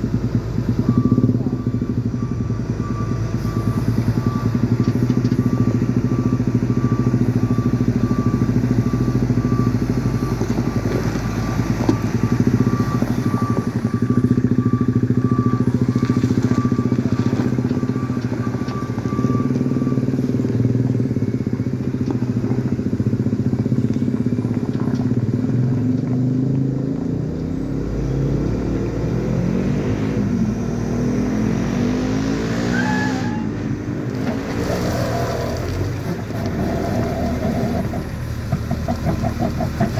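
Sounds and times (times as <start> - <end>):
heavy vehicle diesel engine: 0.0 - 39.9.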